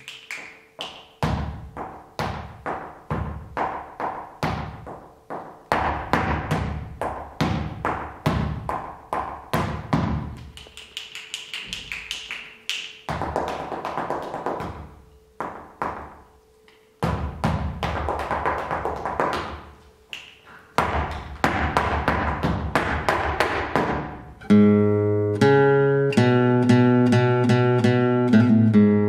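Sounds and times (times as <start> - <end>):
dancer's shoes tapping on stage floor: 0.3 - 24.3.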